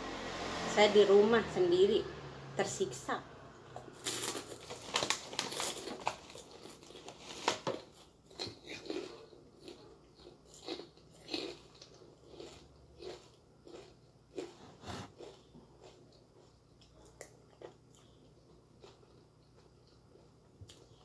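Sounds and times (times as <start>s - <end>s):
person chewing: 3.8s - 21.0s.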